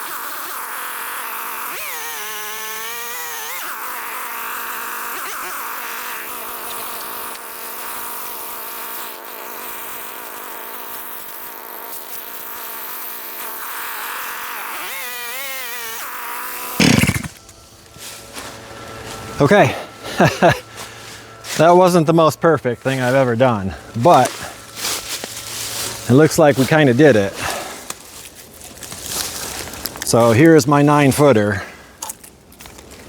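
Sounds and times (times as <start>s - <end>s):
chainsaw cutting log: 0.0s - 30.4s.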